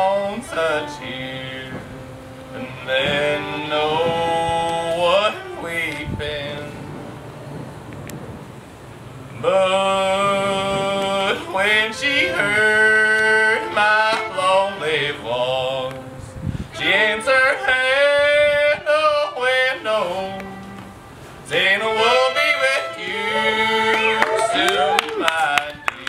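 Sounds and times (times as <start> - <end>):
solo voice singing held notes: 0.0 - 7.6, 9.2 - 26.0.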